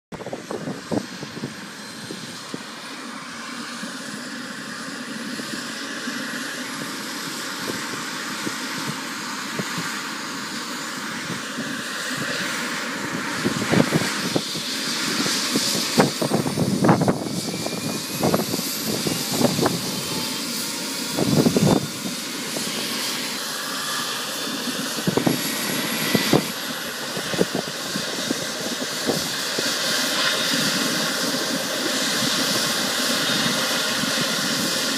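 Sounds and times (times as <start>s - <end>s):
helicopter turbine whine: 0.1s - 34.9s.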